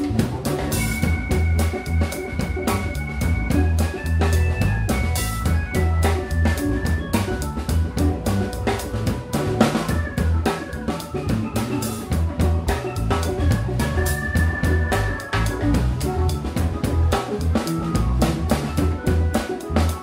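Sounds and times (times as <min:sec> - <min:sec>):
drum kit beat: 0:00.0 - 0:20.0
electric guitar: 0:00.0 - 0:20.0
heavy bass line: 0:00.0 - 0:20.0
keyboard notes: 0:00.0 - 0:20.0.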